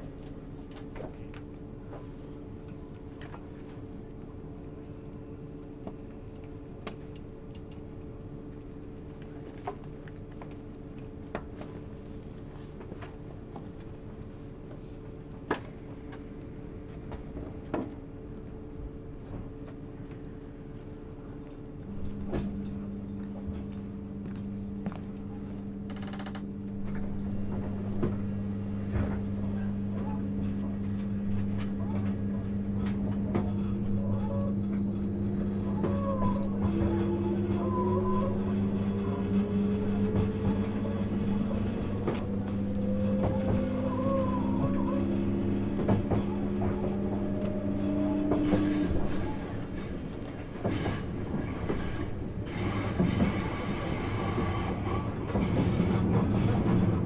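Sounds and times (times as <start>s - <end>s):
rumbling train background: 0.0s - 57.0s
train cabin hum: 0.0s - 57.0s.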